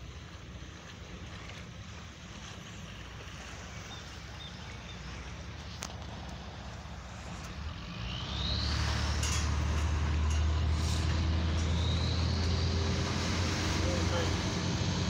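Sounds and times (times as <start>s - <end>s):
ferry engine idling: 0.0s - 15.0s.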